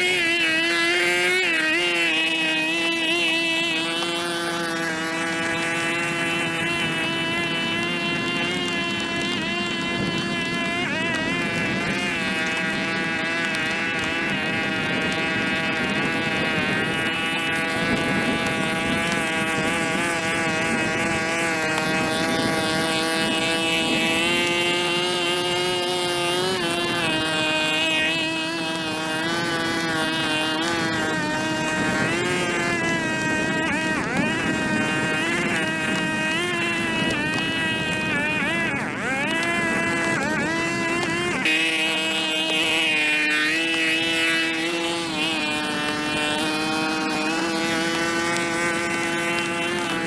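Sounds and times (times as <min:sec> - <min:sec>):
small petrol engine revving: 0:00.0 - 0:50.0.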